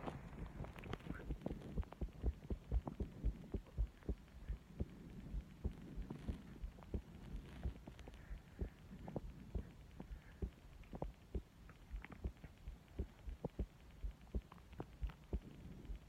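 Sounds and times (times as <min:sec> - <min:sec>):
heartbeat thuds: 0:00.0 - 0:16.0.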